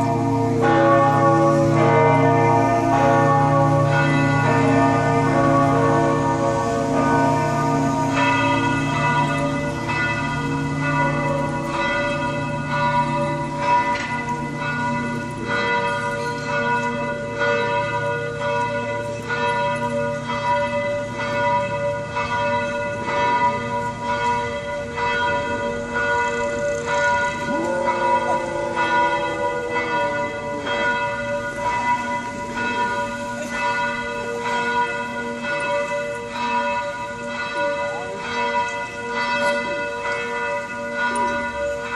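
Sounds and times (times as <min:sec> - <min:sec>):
church bells pealing: 0:00.0 - 0:41.9.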